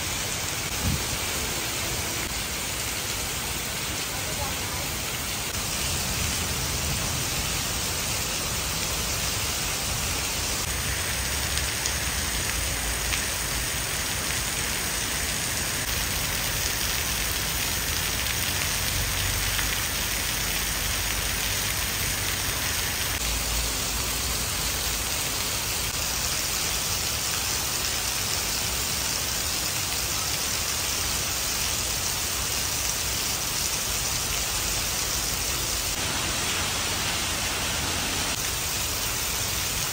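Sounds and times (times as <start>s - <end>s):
rain on stone and tiled roof: 0.0s - 39.9s.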